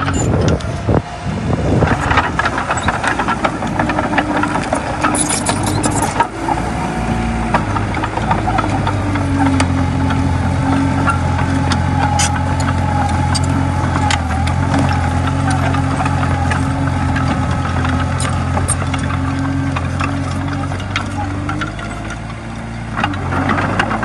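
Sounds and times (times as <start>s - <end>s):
bulldozer diesel engine running: 0.0s - 24.0s
clanking and rattling tracks: 0.0s - 24.0s.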